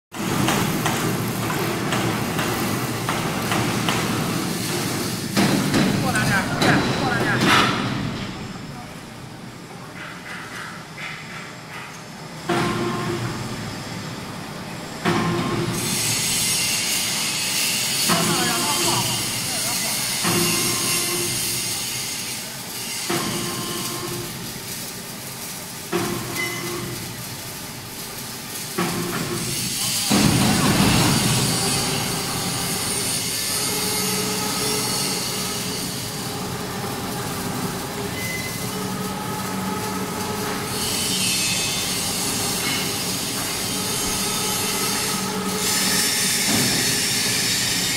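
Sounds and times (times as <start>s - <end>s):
workshop noise hiss: 0.1s - 47.9s
heavy machinery humming: 0.2s - 47.9s.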